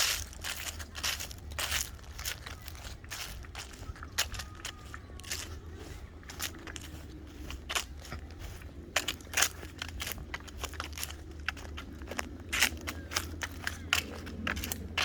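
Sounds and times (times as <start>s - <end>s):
footsteps crunching on dry trail: 0.0s - 15.0s
steady low rumble: 0.0s - 15.0s.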